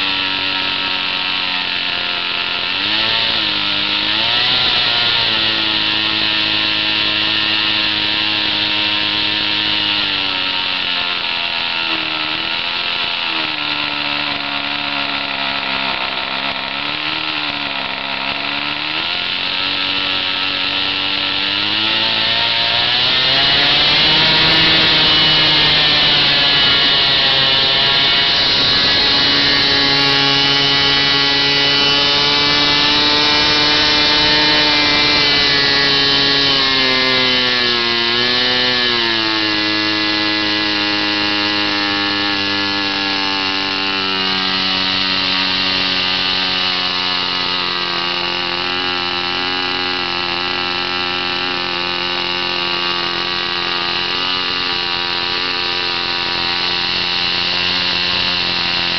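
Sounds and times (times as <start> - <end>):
model airplane engine running: 0.0 - 58.9.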